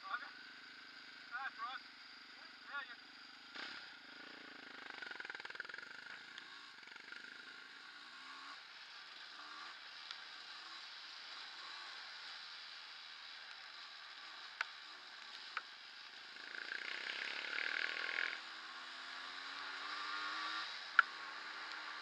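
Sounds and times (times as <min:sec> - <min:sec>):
faint motorcycle engine: 0:00.0 - 0:22.0.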